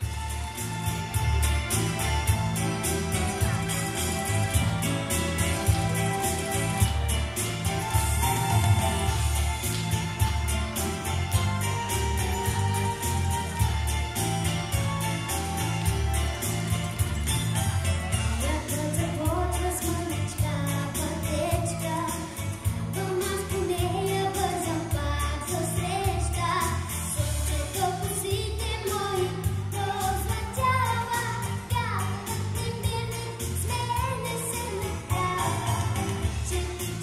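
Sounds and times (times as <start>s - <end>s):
pop backing track: 0.0s - 37.0s.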